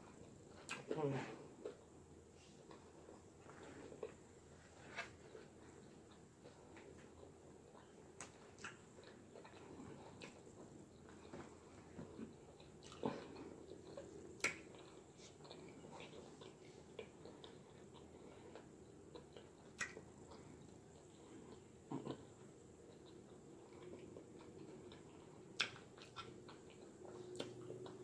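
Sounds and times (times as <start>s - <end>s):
person chewing: 0.0s - 28.0s.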